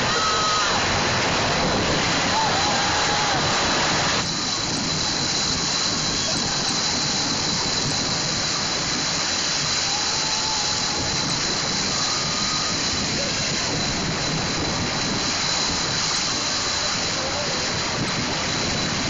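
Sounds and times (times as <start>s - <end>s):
paddles churning water: 0.0s - 19.0s.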